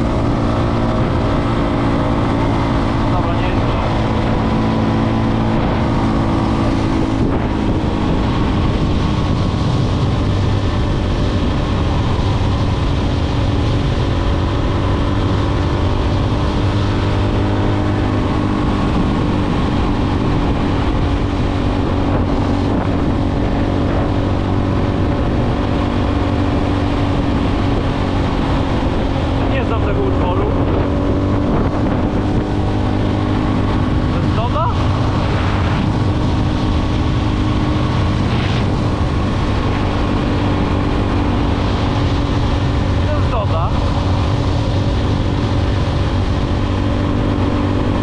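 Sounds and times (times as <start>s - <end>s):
motorcycle engine cruising: 0.0s - 48.0s
wind rush on microphone: 0.0s - 48.0s.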